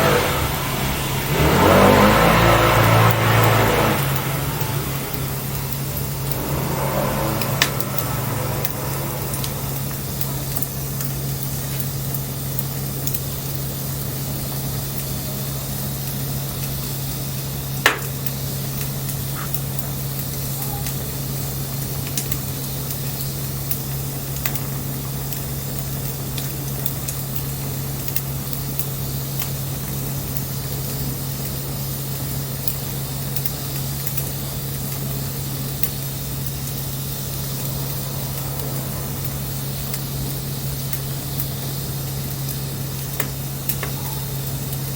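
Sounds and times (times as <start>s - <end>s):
steady low hum: 0.0s - 20.6s, 23.4s - 44.9s
bonfire hissing: 0.0s - 44.9s
fire crackles and pops: 0.0s - 44.9s.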